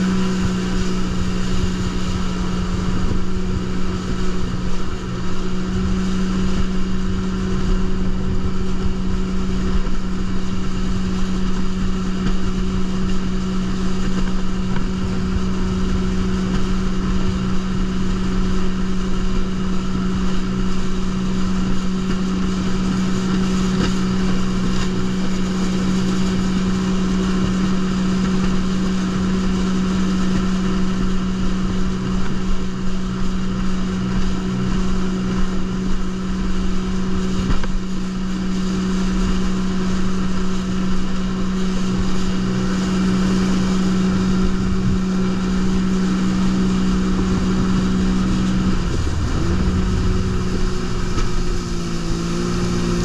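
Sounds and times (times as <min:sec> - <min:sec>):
jet ski engine running: 0:00.0 - 0:53.0
steady rushing noise: 0:00.0 - 0:53.0.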